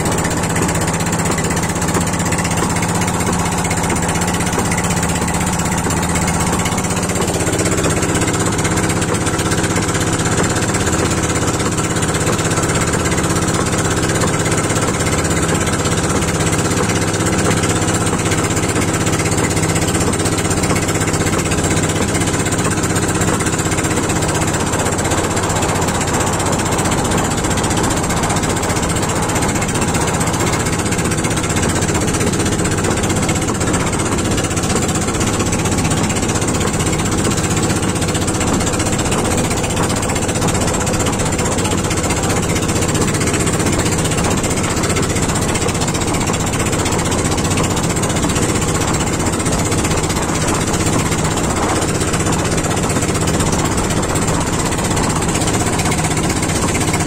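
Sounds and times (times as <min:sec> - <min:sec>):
boat engine putter: 0:00.0 - 0:57.0
water hissing and splashing: 0:00.0 - 0:57.0.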